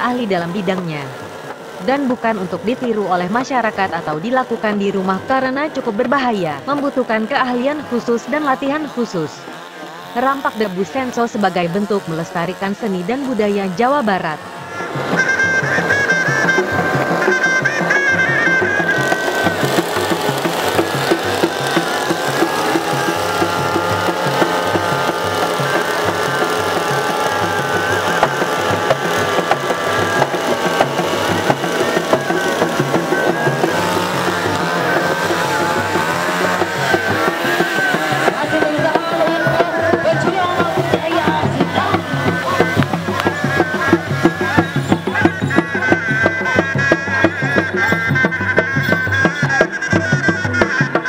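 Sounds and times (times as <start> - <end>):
chainsaws running: 0.0 - 51.0
hand drum strokes: 0.0 - 51.0
reedy wind instrument melody: 0.0 - 51.0.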